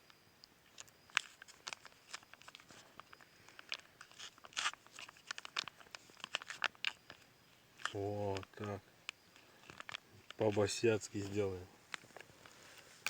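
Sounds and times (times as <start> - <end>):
plastic packaging crinkling: 0.6 - 13.0.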